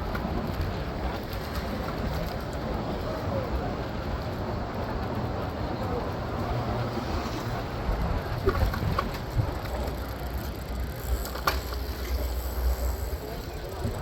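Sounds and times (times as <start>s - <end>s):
passing vehicles rumble: 0.0s - 14.0s.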